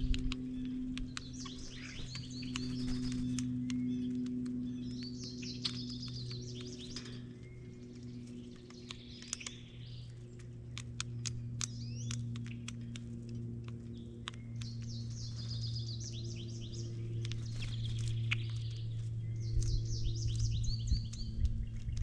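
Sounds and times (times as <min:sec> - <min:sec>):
sharp clicks: 0:00.0 - 0:22.0
songbirds chirping and trilling: 0:00.0 - 0:22.0
steady low hum: 0:00.0 - 0:22.0.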